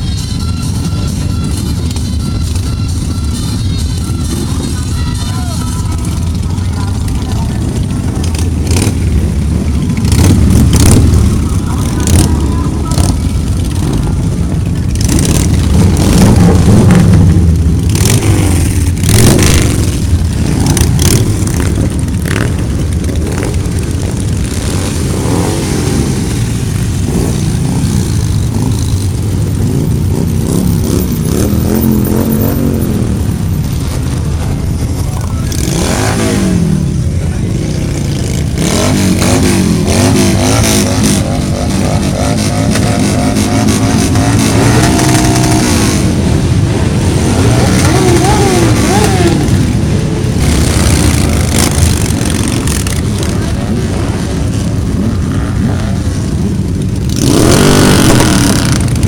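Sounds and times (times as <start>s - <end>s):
car and motorcycle engines revving: 0.0s - 59.0s.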